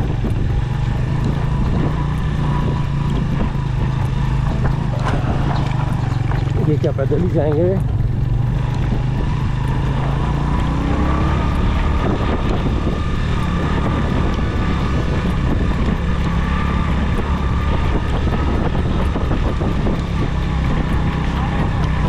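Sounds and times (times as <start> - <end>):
small motorcycle engine: 0.0 - 22.0
wind noise on microphone: 0.0 - 22.0.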